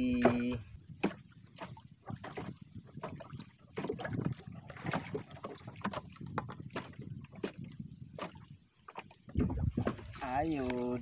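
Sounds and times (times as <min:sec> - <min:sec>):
small waves lapping against boat hull: 0:00.0 - 0:11.0.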